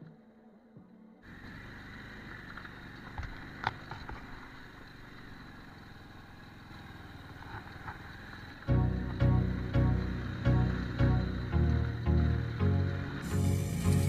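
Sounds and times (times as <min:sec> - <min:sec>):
motorcycle engine running: 0:01.3 - 0:14.0.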